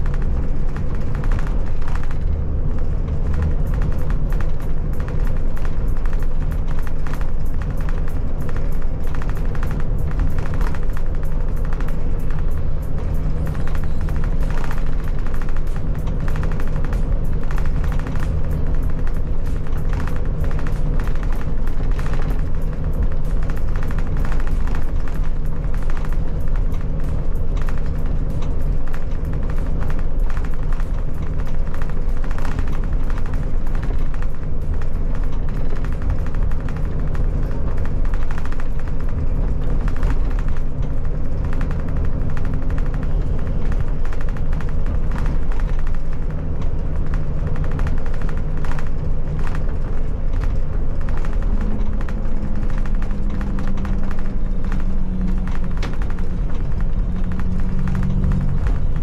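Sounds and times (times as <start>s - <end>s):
bus engine running: 0.0s - 59.0s
rattles and knocks in cab: 0.0s - 59.0s
road noise: 0.0s - 59.0s.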